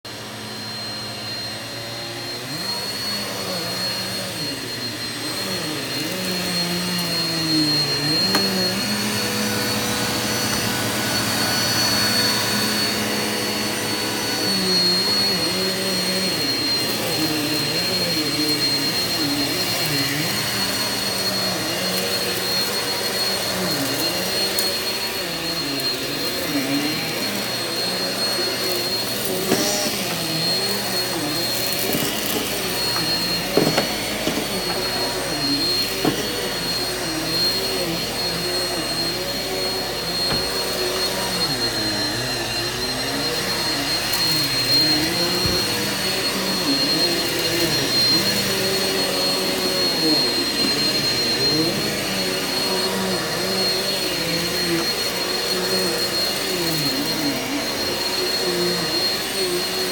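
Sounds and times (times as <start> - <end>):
vacuum cleaner on carpet: 0.0 - 59.9.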